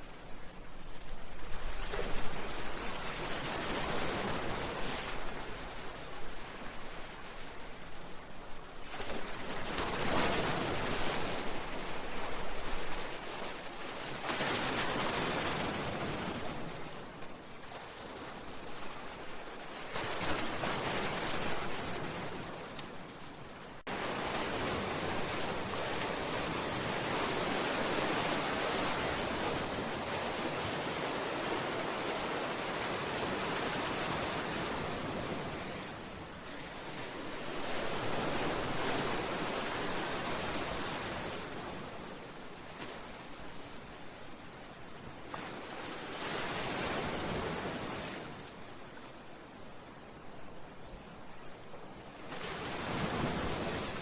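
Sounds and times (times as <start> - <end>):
continuous wash of surf: 0.0 - 54.0.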